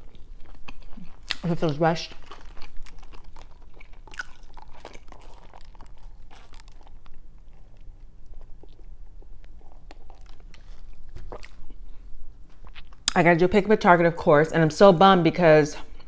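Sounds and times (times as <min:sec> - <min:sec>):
chewing crunchy food: 0:00.0 - 0:13.2.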